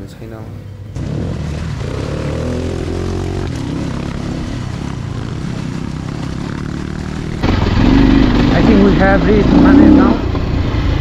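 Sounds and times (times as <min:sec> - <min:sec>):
dirt bike engine revving: 0:00.9 - 0:11.0.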